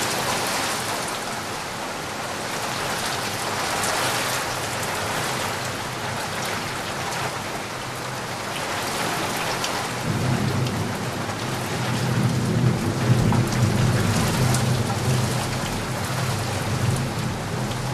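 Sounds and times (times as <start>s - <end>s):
rain hissing and pattering: 0.0s - 17.9s.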